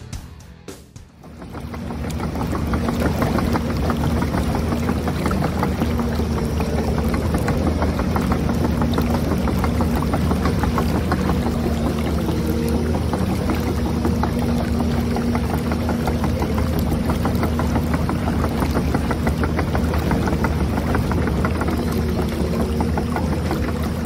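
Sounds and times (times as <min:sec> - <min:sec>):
gears and tracks clicking: 0:01.0 - 0:24.0.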